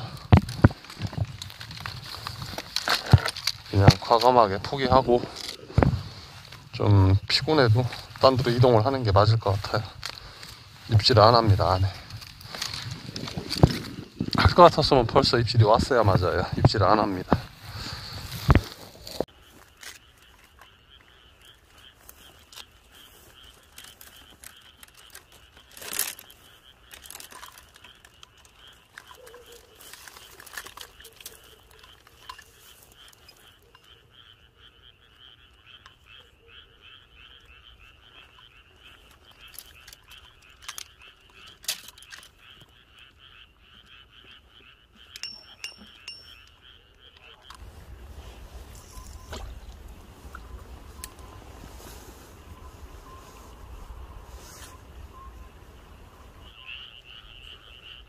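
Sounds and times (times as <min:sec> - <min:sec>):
frogs calling in chorus: 0:00.0 - 0:58.0.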